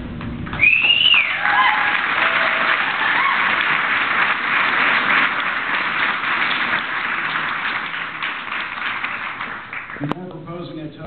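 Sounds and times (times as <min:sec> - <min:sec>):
crowd applauding: 0:00.3 - 0:10.1.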